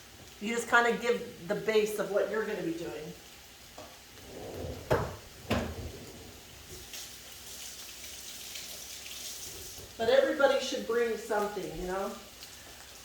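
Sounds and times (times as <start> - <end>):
meat sizzling in a grill pan: 0.0 - 4.2, 6.4 - 13.0.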